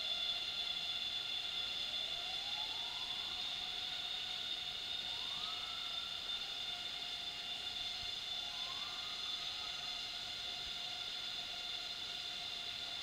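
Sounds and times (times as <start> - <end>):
high-pitched insect drones: 0.0 - 13.0.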